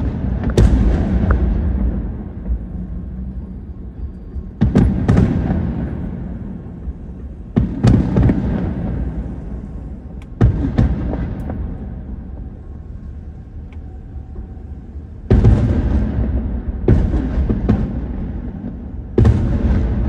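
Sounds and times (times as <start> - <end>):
fireworks bursting: 0.0 - 14.3, 14.9 - 20.0
low rumble: 0.0 - 20.0.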